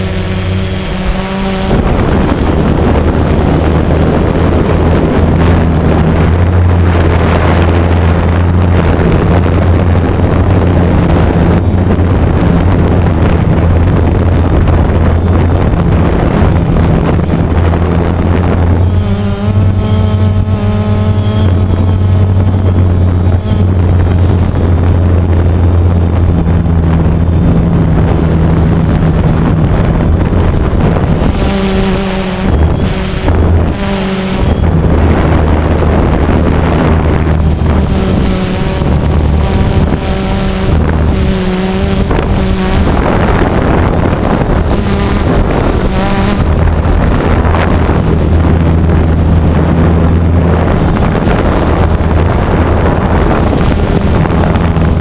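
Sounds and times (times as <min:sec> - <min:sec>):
drone propellers buzzing: 0:00.0 - 0:55.0
wind on microphone: 0:00.0 - 0:55.0.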